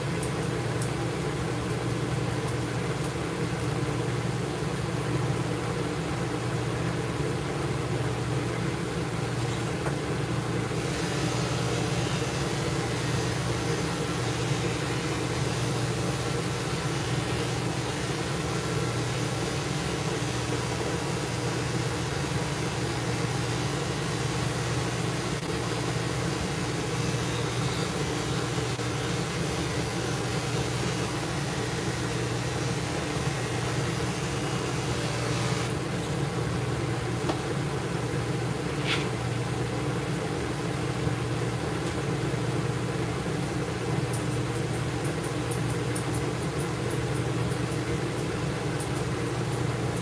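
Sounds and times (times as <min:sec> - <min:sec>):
machine hum with fan rush: 0:00.0 - 0:50.0.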